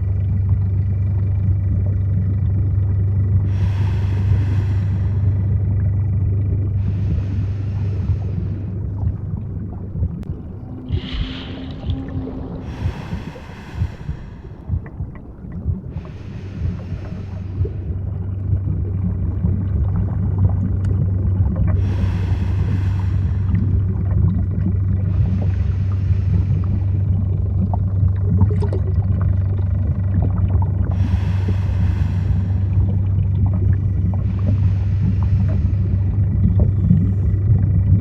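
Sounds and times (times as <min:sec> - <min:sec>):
low underwater rumble: 0:00.0 - 0:38.0
scuba regulator breathing: 0:03.2 - 0:27.8, 0:29.0 - 0:37.9.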